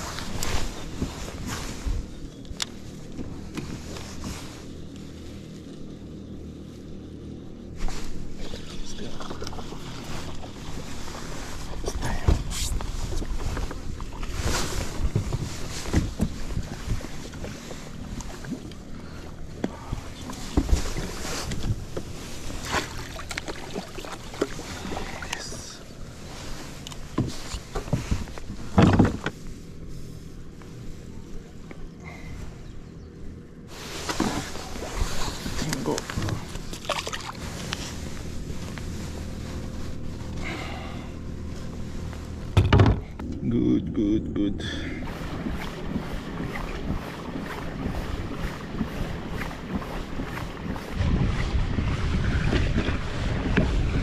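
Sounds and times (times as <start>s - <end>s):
kayak drive humming: 0.0s - 54.0s.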